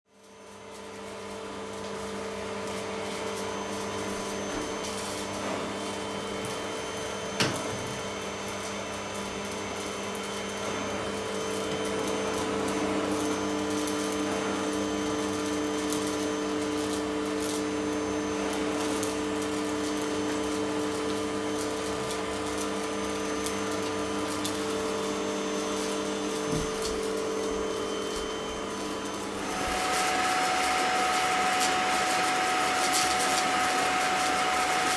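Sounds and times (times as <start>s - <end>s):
vacuum cleaner humming: 0.2s - 34.9s.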